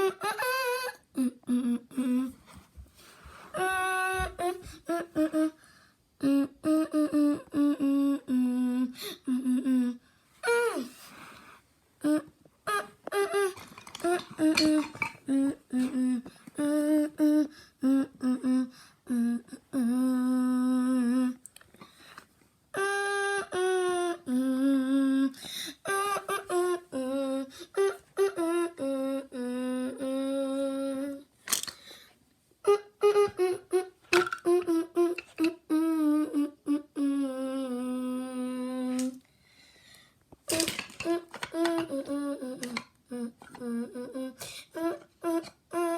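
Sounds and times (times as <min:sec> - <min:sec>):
person humming a tune: 0:00.0 - 0:02.5, 0:03.4 - 0:05.6, 0:06.2 - 0:11.0, 0:12.0 - 0:21.5, 0:22.7 - 0:31.3, 0:32.6 - 0:39.2, 0:40.5 - 0:45.9.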